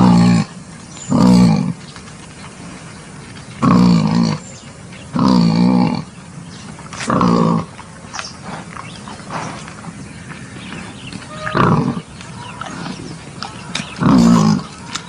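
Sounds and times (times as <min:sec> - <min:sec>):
wild boar grunting: 0:00.0 - 0:01.9, 0:03.5 - 0:06.2, 0:06.9 - 0:15.0
boar snuffling: 0:00.0 - 0:15.0.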